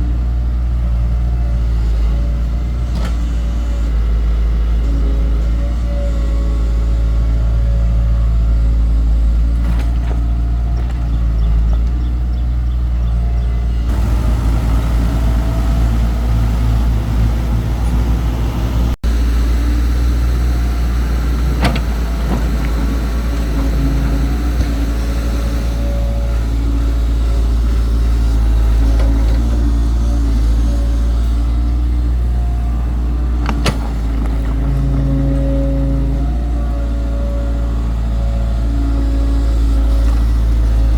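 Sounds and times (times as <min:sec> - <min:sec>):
diesel engine droning under load: 0:00.0 - 0:40.9.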